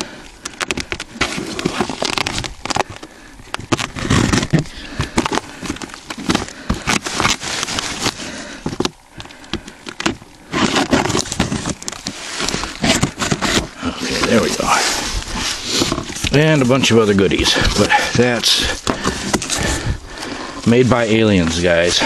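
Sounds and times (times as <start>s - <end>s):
cardboard crackling and tearing: 0.0s - 22.0s
scrapes and small knocks: 0.5s - 19.8s.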